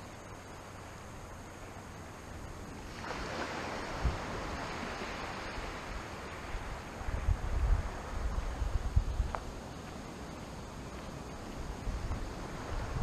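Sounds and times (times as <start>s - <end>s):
gusty wind rumbling on microphone: 2.5s - 13.0s.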